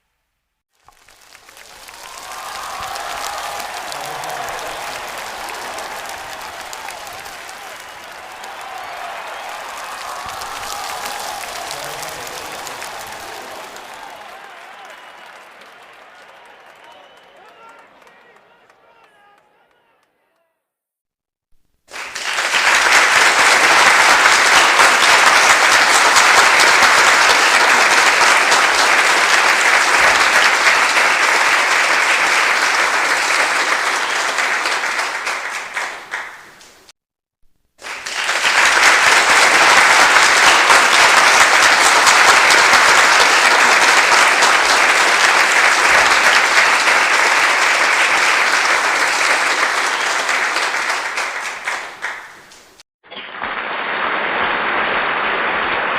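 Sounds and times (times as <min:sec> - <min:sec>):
audience applause: 0:00.8 - 0:20.1, 0:21.9 - 0:36.9, 0:37.8 - 0:55.9.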